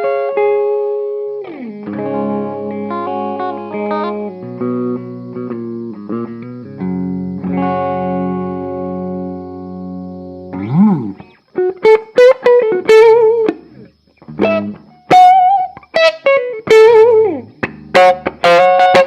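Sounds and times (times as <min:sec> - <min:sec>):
electric guitar lead line: 0:00.0 - 0:19.0.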